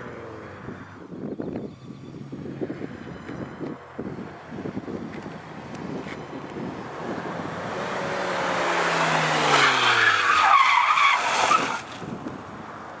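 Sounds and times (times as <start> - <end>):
tyre and air noise: 0.6 - 10.5, 11.1 - 12.8.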